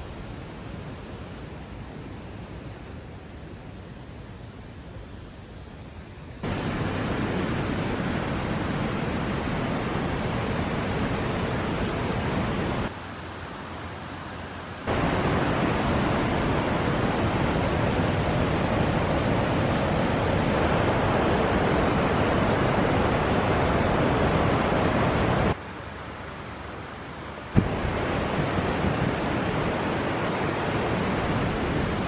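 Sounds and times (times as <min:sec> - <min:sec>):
steady outdoor rushing noise: 0:00.0 - 0:32.0.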